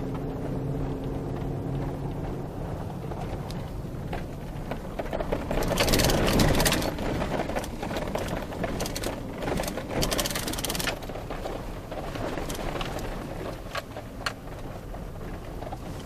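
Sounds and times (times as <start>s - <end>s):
dense rattling and crunching: 0.0s - 16.0s
vehicle rumbling on rough road: 0.0s - 16.0s.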